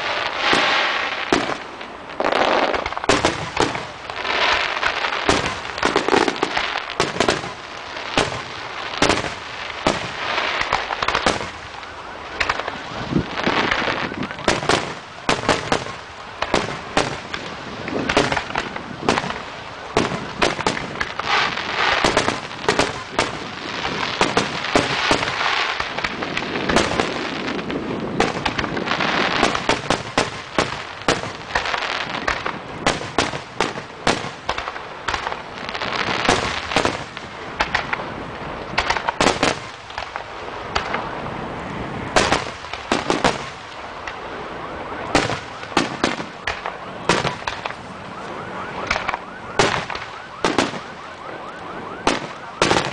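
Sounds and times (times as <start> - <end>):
fireworks crackling hiss: 0.0 - 48.3
fireworks bangs: 0.0 - 52.9.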